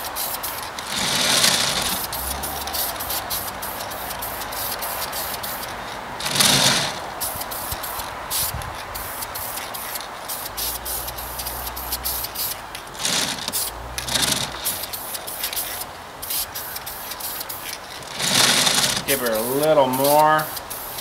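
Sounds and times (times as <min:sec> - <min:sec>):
spray-paint can hissing: 0:00.0 - 0:21.0.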